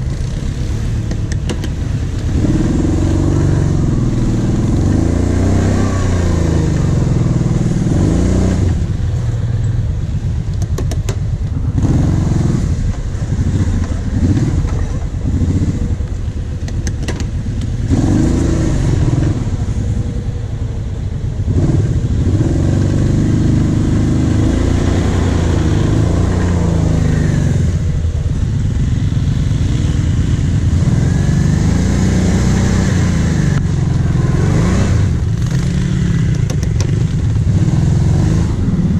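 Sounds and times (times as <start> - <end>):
quad engine revving and idling: 0.0 - 9.6, 10.6 - 38.9.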